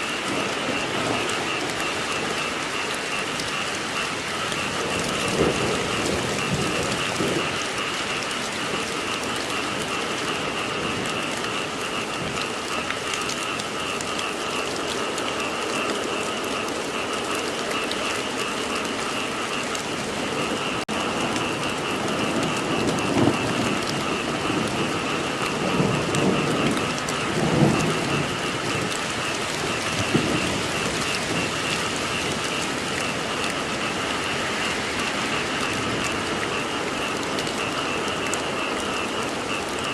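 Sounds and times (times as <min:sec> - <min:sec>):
frogs calling: 0:00.0 - 0:39.9
steady rain falling: 0:00.0 - 0:39.9
thunder rumbling: 0:00.0 - 0:39.9.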